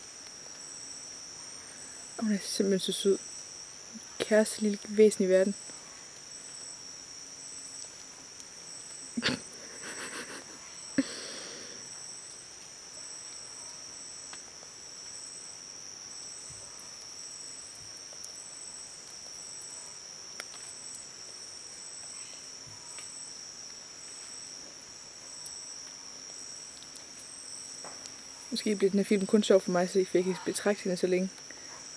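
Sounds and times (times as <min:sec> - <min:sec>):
higher pulsing insect trill: 0:00.0 - 0:31.9
insects trilling: 0:00.0 - 0:31.9.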